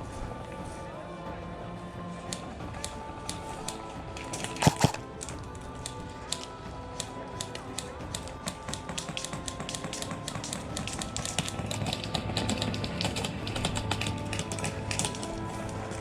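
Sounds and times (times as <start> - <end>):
background music: 0.0 - 16.0
airsoft guns clicking: 2.3 - 16.0.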